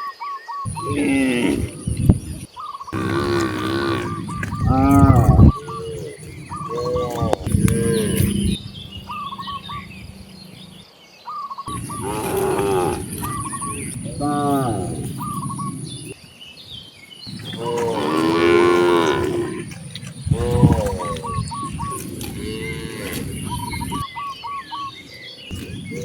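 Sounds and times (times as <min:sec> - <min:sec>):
cattle mooing: 0:00.7 - 0:10.8, 0:11.7 - 0:16.2, 0:17.3 - 0:24.0.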